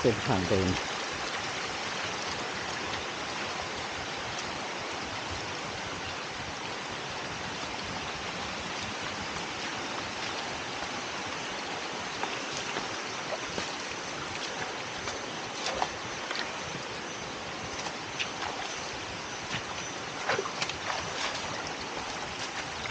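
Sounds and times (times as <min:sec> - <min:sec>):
stream water rushing: 0:00.0 - 0:22.9.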